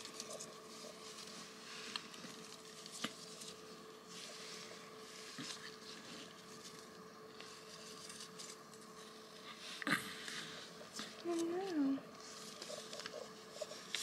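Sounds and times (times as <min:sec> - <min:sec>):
cloth and paper rustling: 0:00.0 - 0:14.0
faint steady hum: 0:00.0 - 0:14.0.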